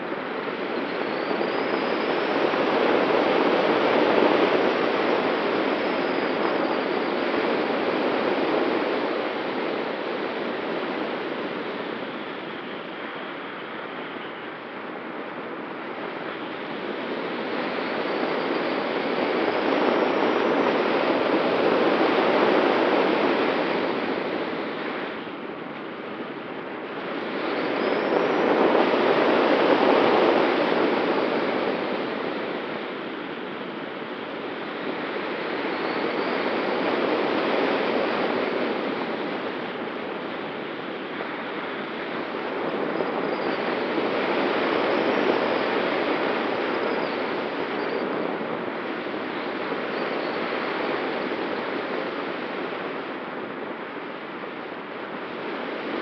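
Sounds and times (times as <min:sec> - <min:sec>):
wind rushing over glider wing: 0:00.0 - 0:56.0.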